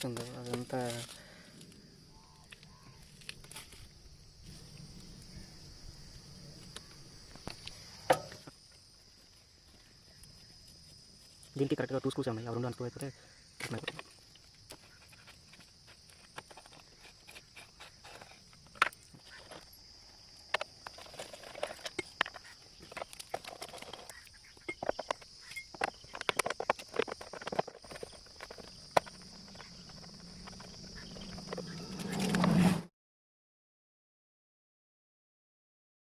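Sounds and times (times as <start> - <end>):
crickets trilling: 0.0 - 32.8.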